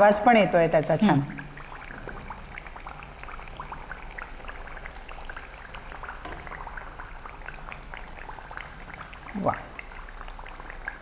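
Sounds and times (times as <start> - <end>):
deep-frying crackles and pops: 0.0 - 11.0.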